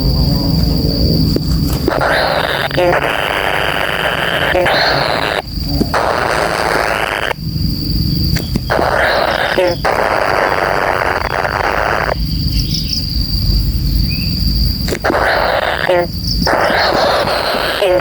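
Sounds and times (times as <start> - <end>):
high insect-like buzz: 0.0 - 18.0.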